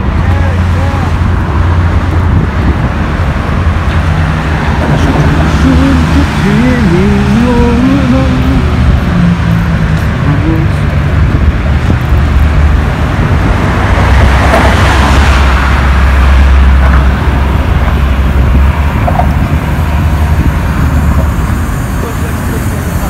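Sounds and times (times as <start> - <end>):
road traffic rumble: 0.0 - 23.0
vehicle passing: 0.0 - 23.0.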